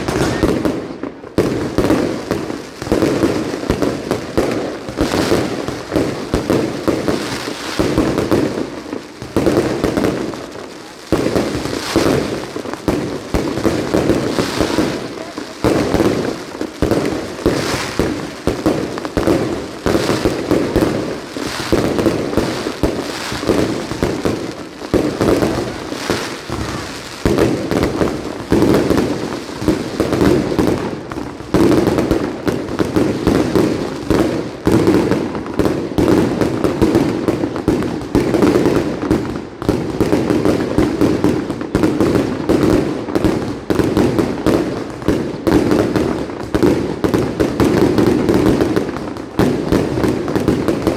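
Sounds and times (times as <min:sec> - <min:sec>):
firecracker bangs: 0:00.0 - 0:10.5, 0:11.1 - 0:50.9.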